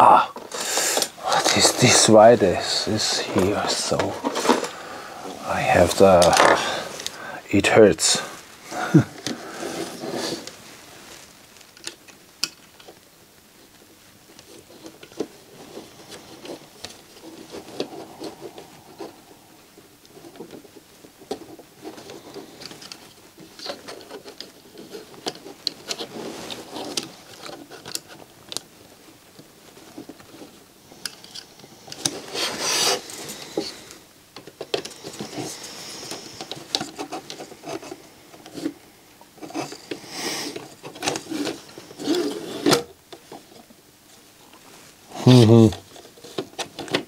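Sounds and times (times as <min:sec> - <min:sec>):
plastic scraping: 0:00.0 - 0:13.0, 0:14.3 - 0:43.8.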